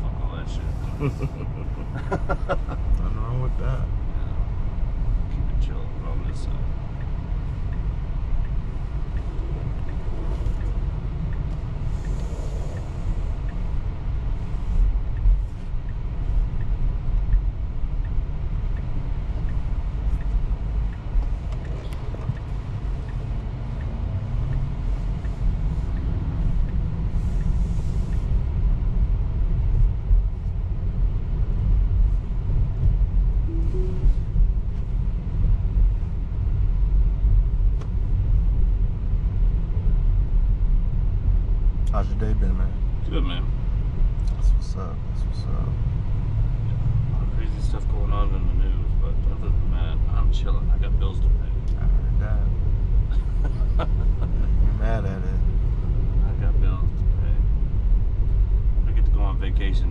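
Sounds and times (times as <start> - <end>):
road and tyre rumble: 0.0 - 59.9.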